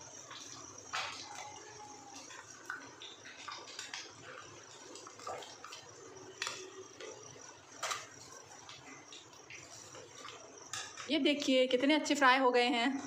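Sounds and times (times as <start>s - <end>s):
hot oil sizzling and crackling: 0.0s - 12.2s.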